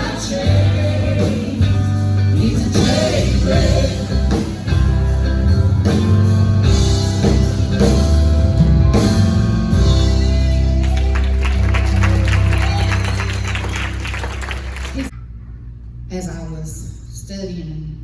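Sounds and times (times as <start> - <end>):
instrumental band playing: 0.0 - 15.1.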